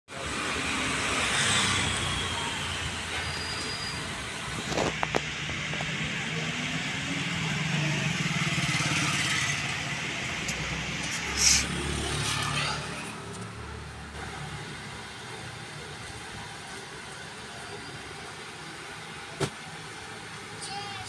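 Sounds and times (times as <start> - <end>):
vehicle engine passing: 0.1 - 17.2.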